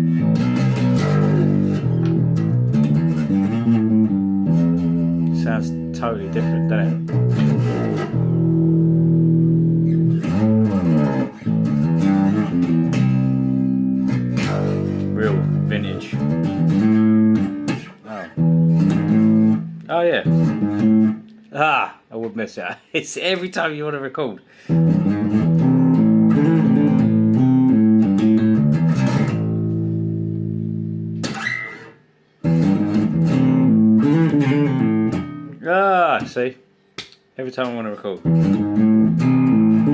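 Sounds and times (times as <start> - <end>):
electric bass notes plucked: 0.0 - 21.4, 24.6 - 31.7, 32.4 - 36.3, 38.1 - 39.9.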